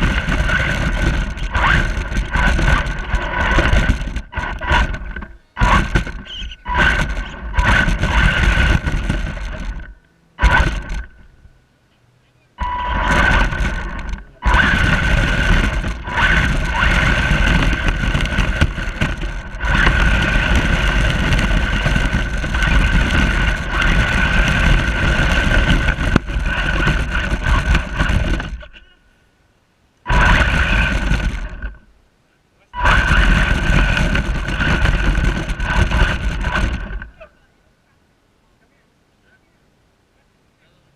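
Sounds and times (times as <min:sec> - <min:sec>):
remote control truck whining: 0:00.0 - 0:11.4, 0:12.6 - 0:28.7, 0:30.1 - 0:31.9, 0:32.8 - 0:37.2.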